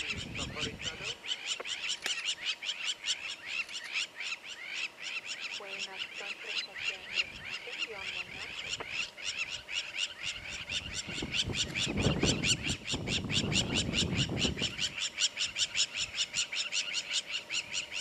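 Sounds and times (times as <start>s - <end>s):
animal chirping rapidly: 0.0s - 18.0s.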